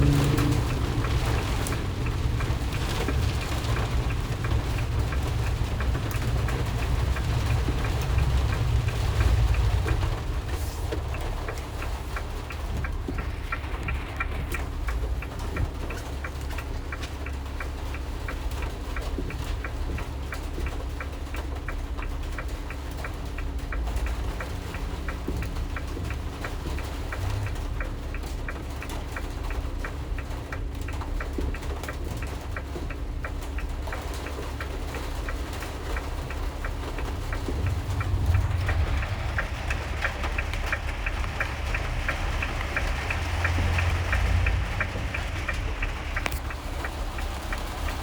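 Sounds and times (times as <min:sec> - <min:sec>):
rain on vehicle body: 0:00.0 - 0:48.0
regular ticking: 0:00.0 - 0:48.0
road and engine rumble: 0:00.0 - 0:48.0.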